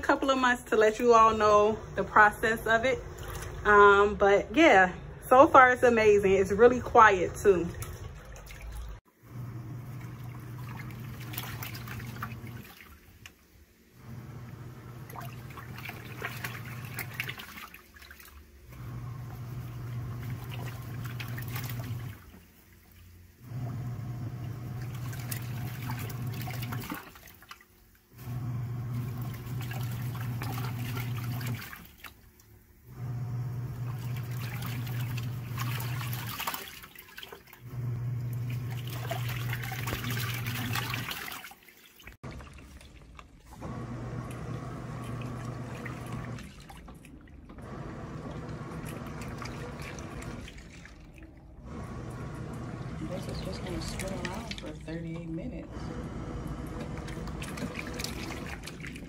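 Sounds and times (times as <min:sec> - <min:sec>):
washing machine motor humming: 0:00.0 - 0:59.0
water sloshing in tub: 0:00.0 - 0:59.0.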